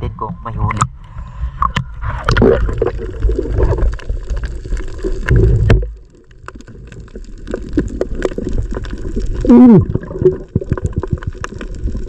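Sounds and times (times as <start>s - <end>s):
bubbles: 2.0s - 12.0s
seawater splashing and gurgling: 2.0s - 12.0s.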